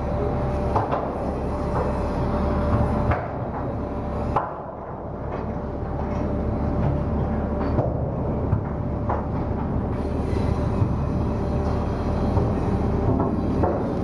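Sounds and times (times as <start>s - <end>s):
windlass machine hum: 0.0s - 14.0s.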